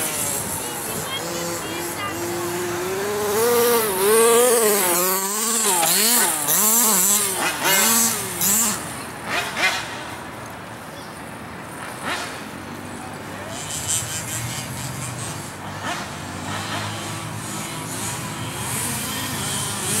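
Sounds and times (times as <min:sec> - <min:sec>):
two-stroke engine revving: 0:00.0 - 0:10.3, 0:11.7 - 0:20.0.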